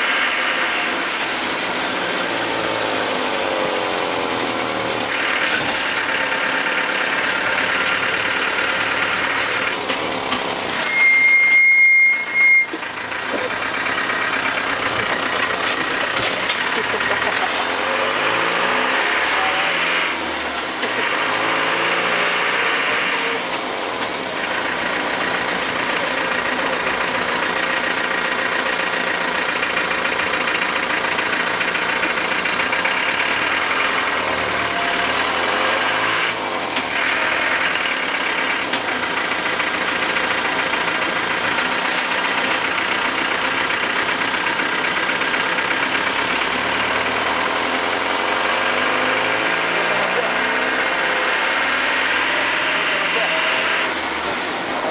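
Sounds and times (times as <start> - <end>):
vehicle engine running: 0.0 - 10.9, 12.2 - 54.9.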